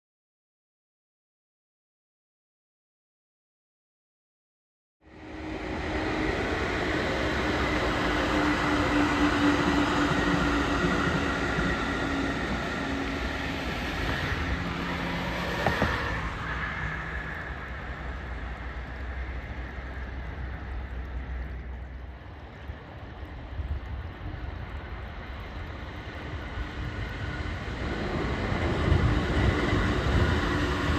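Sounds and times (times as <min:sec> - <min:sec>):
train rumbling past on rails: 0:05.0 - 0:30.9.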